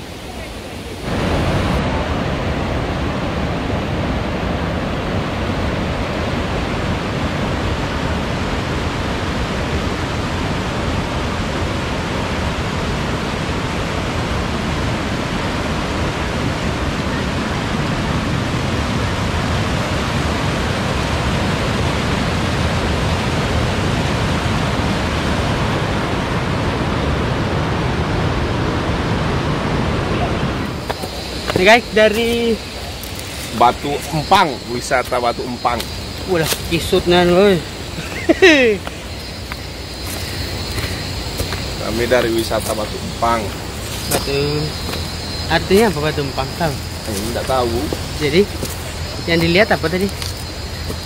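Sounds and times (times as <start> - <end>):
river rapids rushing: 0.0 - 51.0.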